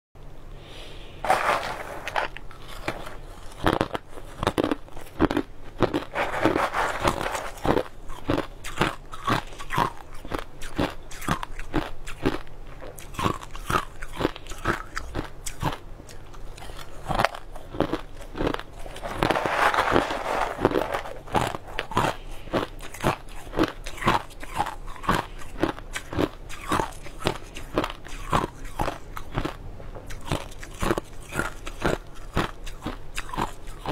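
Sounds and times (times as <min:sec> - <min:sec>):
ice cubes crunching in mouth: 0:01.2 - 0:33.9.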